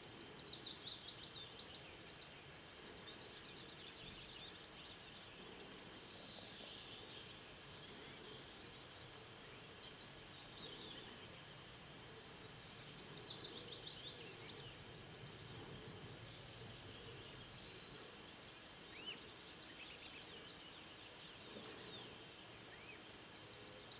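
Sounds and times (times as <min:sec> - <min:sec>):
low outdoor hiss: 0:00.0 - 0:23.9
songbirds singing: 0:00.0 - 0:23.9.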